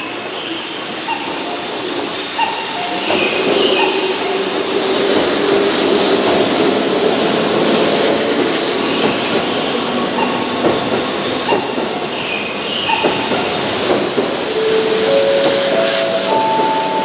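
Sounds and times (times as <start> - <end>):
train wheels clicking over rail joints: 0.8 - 17.0.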